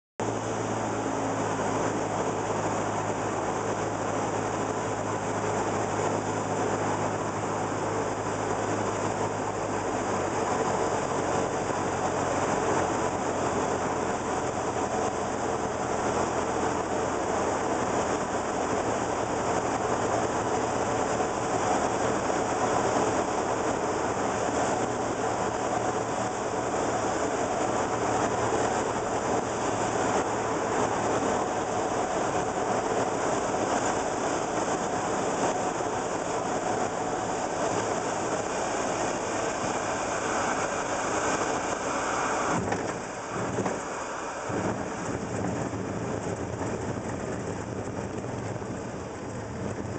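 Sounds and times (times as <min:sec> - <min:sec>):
airflow noise: 0:00.2 - 0:49.9
propeller plane engine droning: 0:00.2 - 0:49.9.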